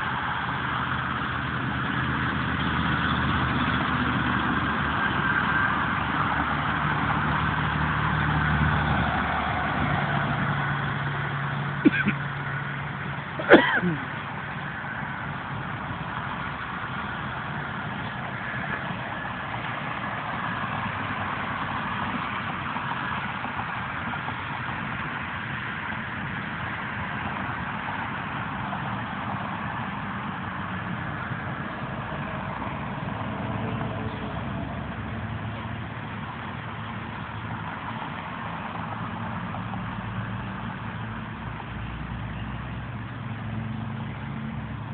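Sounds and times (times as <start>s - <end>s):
traffic on a wet road: 0.0s - 44.9s.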